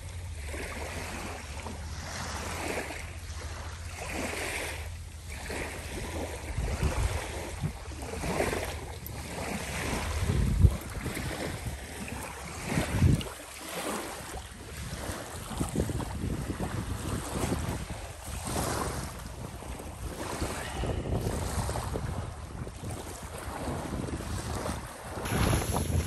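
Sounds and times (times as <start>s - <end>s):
wind buffeting microphone: 4.9s - 26.0s.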